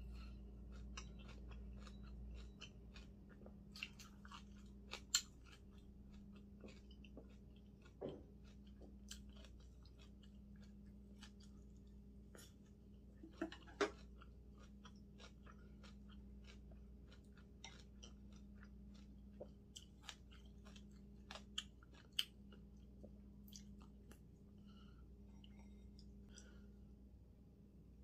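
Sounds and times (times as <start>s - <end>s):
person chewing with mouth clicks: 0.0s - 24.3s.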